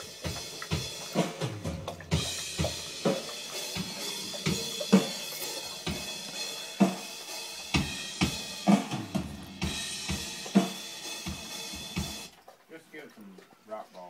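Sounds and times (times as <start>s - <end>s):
drum-heavy music over speakers: 0.0s - 12.4s.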